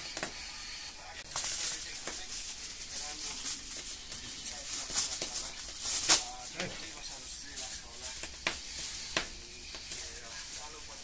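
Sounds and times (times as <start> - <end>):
foil packet crinkling: 1.3 - 11.0
plastic bag rustling: 1.3 - 11.0.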